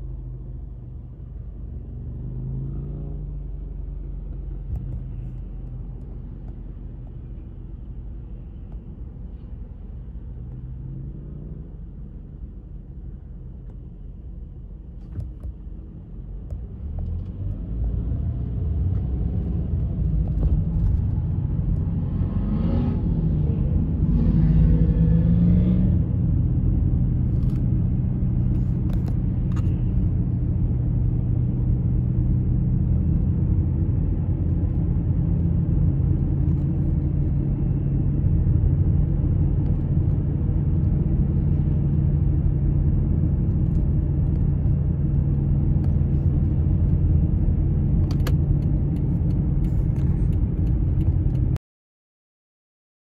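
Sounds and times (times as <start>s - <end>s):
car engine and road noise: 0.0s - 51.6s.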